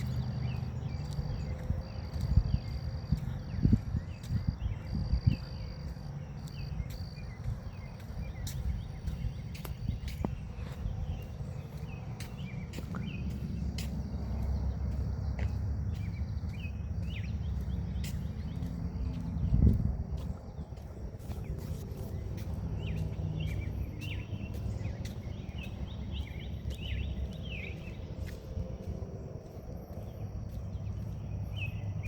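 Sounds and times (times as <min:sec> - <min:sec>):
footsteps on a path: 0:00.0 - 0:32.0
wind rumble on microphone: 0:00.0 - 0:32.0.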